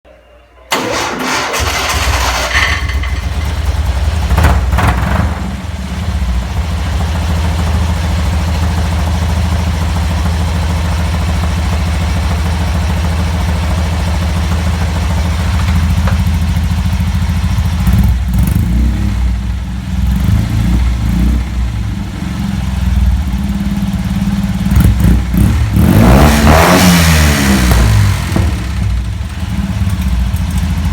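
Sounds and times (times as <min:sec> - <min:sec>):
car engine idling and revving: 0:00.7 - 0:30.9.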